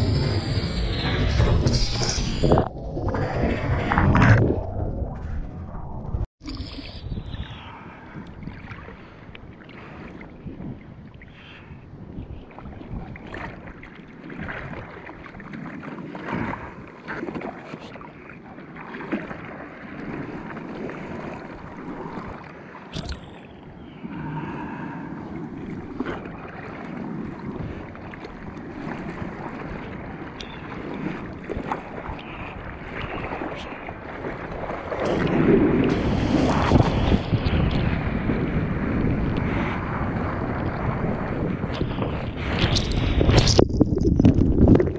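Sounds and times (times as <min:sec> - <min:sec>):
seawater lapping and splashing: 0:08.0 - 0:44.9.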